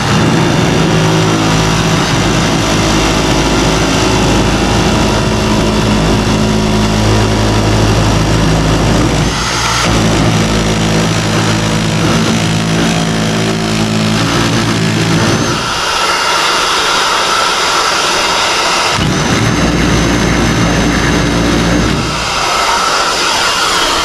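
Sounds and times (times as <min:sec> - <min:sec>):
engine running loudly: 0:00.0 - 0:24.0.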